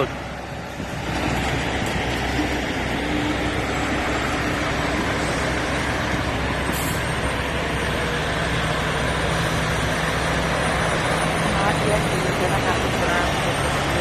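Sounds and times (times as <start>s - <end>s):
trucks driving past: 0.0s - 14.0s.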